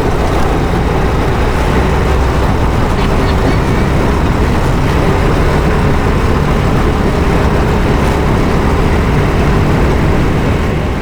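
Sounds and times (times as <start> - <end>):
dense rushing noise: 0.0 - 11.0
go-kart engine running: 0.0 - 11.0.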